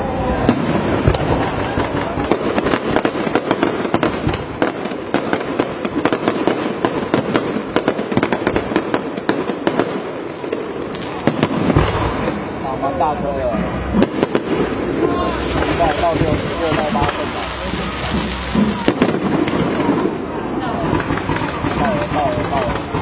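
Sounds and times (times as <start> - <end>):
firecrackers banging: 0.0 - 23.0.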